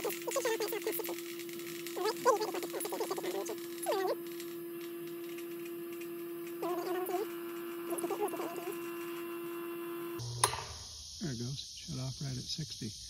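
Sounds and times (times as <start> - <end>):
well pump humming: 0.0 - 10.9.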